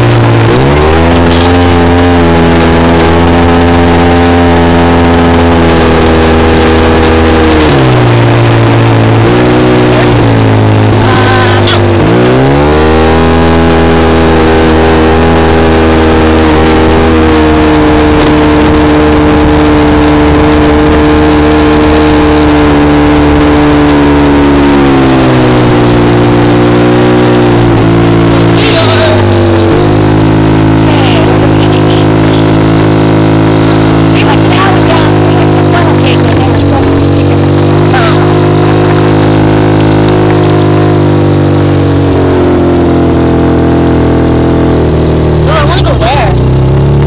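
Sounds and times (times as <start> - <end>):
dune buggy engine revving: 0.0 - 47.0.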